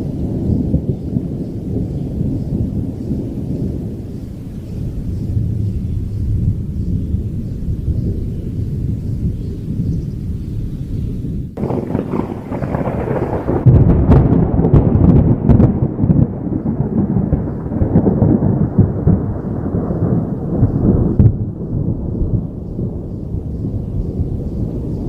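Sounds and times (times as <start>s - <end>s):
sharp thunder cracks: 0.0s - 25.0s
thunder rumbling: 0.0s - 25.0s.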